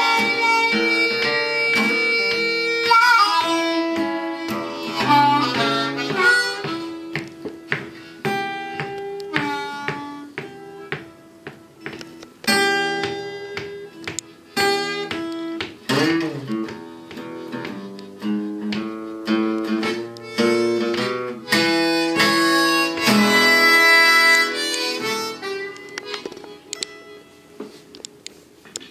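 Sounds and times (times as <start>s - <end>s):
blues harmonica: 0.0s - 27.9s
acoustic guitar picking: 0.0s - 28.9s.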